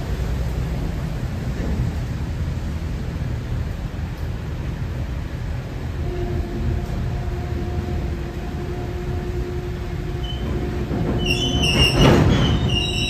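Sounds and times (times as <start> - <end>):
train wheels clattering on rail: 0.0 - 13.0.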